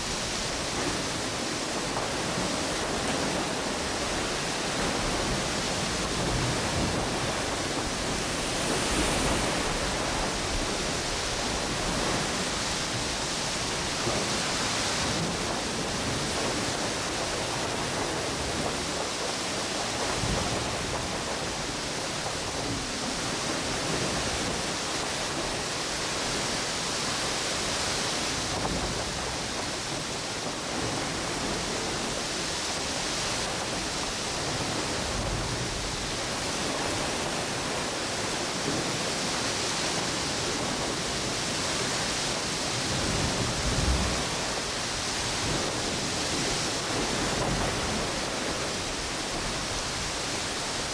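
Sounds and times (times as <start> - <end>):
ocean waves washing on beach: 0.0 - 50.9
strong wind through trees: 0.0 - 50.9.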